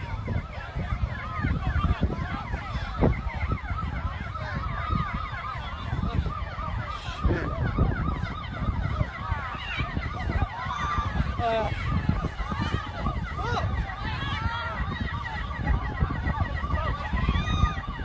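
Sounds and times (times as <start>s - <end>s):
emergency vehicle sirens wailing: 0.0s - 18.0s.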